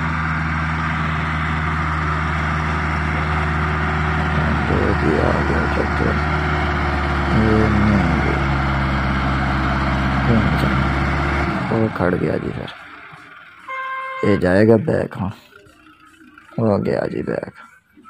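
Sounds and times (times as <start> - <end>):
tractor diesel engine straining: 0.0 - 18.0.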